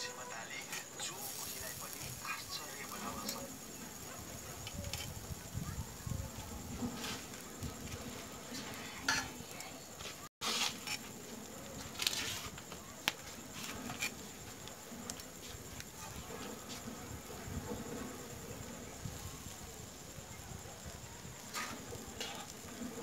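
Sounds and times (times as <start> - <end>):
meat sizzling on hot stone: 0.7 - 9.5, 10.2 - 23.0.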